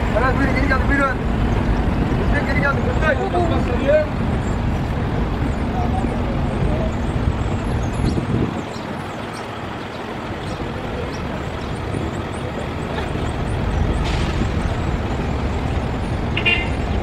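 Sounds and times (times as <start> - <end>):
road traffic rumbling: 0.0 - 17.0.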